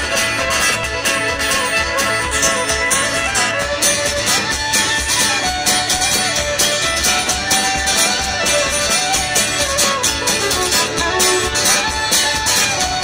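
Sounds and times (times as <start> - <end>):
fiddle: 0.0 - 13.0
guitar: 0.0 - 13.0
steady drum beat: 0.0 - 13.0.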